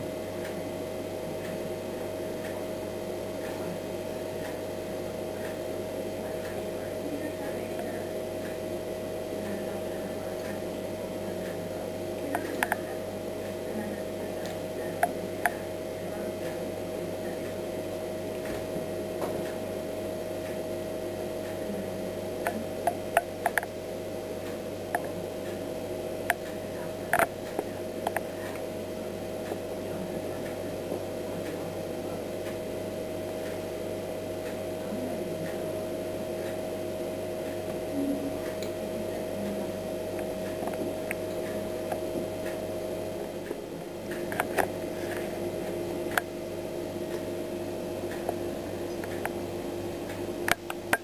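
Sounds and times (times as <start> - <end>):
steady hum: 0.0 - 51.0.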